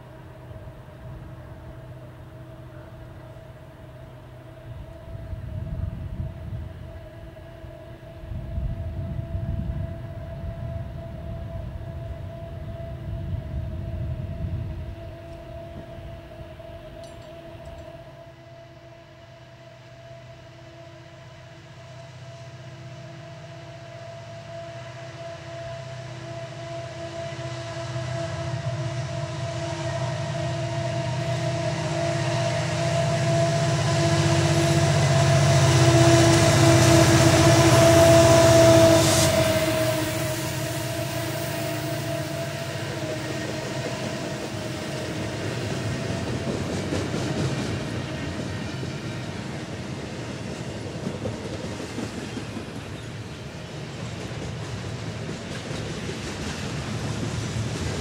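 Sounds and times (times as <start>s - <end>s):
diesel locomotive engine rumble: 0.0s - 58.0s
steady engine whine: 0.0s - 58.0s.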